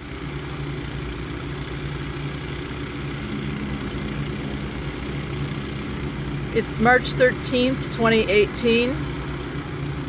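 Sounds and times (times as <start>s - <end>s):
water pump engines humming: 0.0s - 10.0s.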